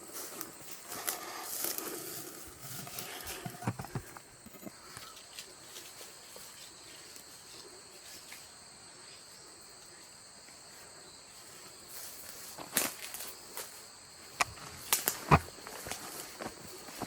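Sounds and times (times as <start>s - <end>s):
rustling in dry leaves: 0.0s - 3.6s, 4.7s - 9.4s, 10.7s - 17.0s
insects chirring: 0.0s - 17.0s.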